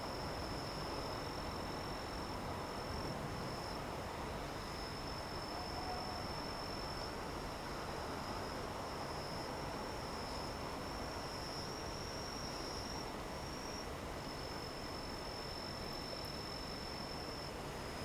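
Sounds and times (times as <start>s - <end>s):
crickets trilling: 0.2s - 18.0s.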